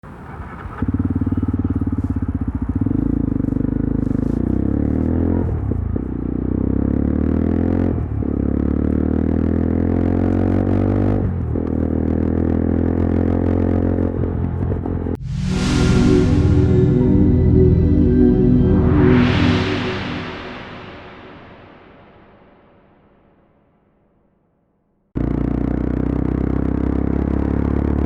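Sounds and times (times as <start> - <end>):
motorcycle engine accelerating: 0.2 - 19.9, 25.2 - 28.0.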